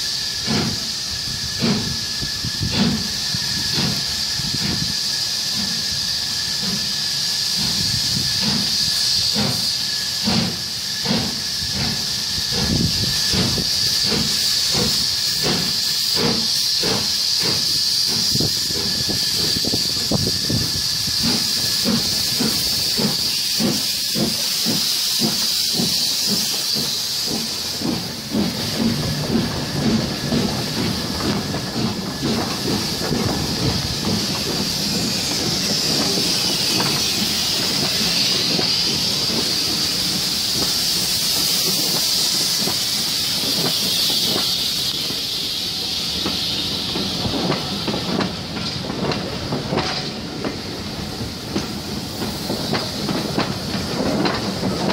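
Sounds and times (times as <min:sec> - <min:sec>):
hiss of steam: 0:00.0 - 0:54.9
steam locomotive exhaust beats: 0:00.0 - 0:54.9
train wheels clicking over rail joints: 0:00.0 - 0:54.9.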